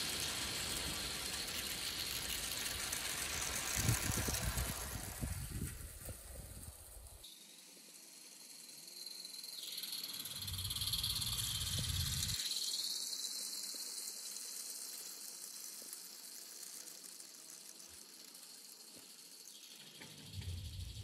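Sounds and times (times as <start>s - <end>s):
miniature train rolling past: 0.0s - 21.0s.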